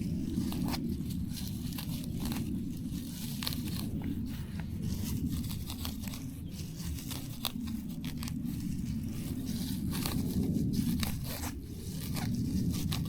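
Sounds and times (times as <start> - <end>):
plants tearing and snapping: 0.0 - 13.0
steady low rumble: 0.0 - 13.0.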